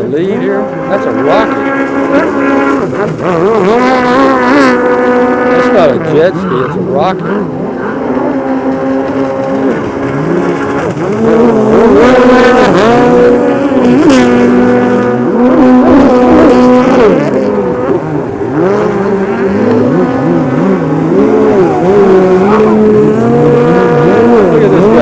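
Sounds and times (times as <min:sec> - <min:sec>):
jet ski engines whining: 0:00.0 - 0:25.0.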